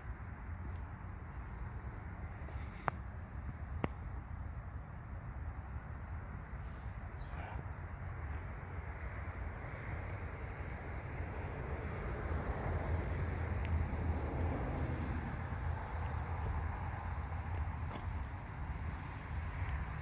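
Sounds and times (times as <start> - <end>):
crickets chirping: 0.0 - 20.0
car engine rumble: 0.1 - 20.0.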